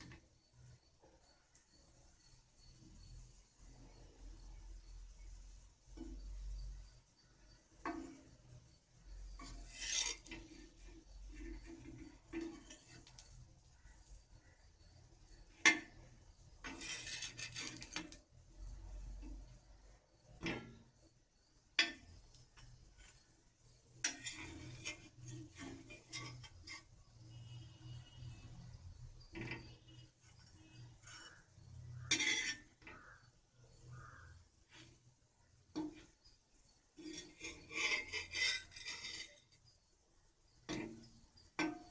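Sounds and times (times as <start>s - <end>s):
metal spatula scraping griddle: 0.0s - 0.9s, 1.8s - 41.9s.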